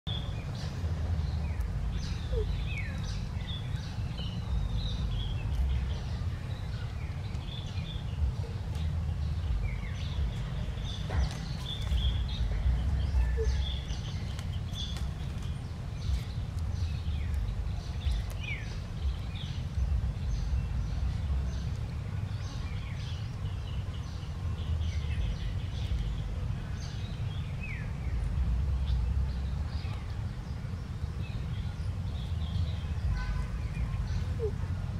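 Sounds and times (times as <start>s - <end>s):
birds chirping: 0.1s - 34.9s
wind rumble on microphone: 0.1s - 34.9s.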